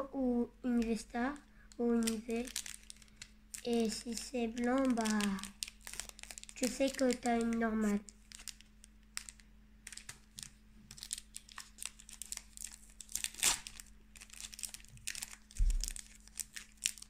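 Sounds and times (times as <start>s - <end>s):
foil wrapper crinkling: 0.7s - 17.0s.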